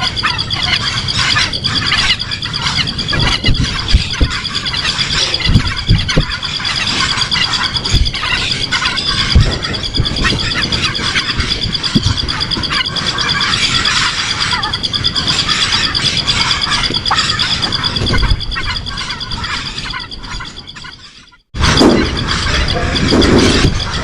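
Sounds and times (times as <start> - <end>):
birds chirping: 0.0 - 24.0
pulsing high trill: 0.0 - 24.0.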